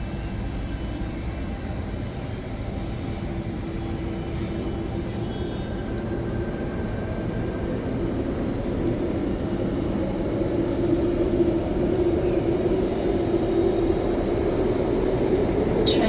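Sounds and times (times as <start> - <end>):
train rumble: 0.0 - 16.0
train traction motor whine: 0.0 - 16.0.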